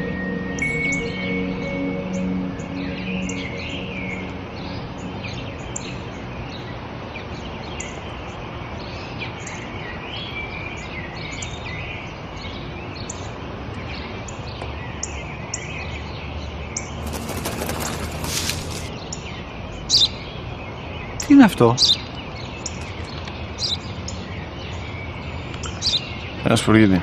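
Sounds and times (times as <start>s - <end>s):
outdoor background hiss: 0.0s - 27.0s
small birds chirping: 0.6s - 27.0s.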